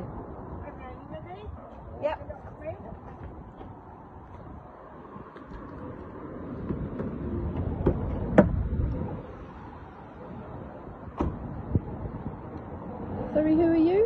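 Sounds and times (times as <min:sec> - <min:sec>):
vehicle passing by: 0:02.2 - 0:14.0.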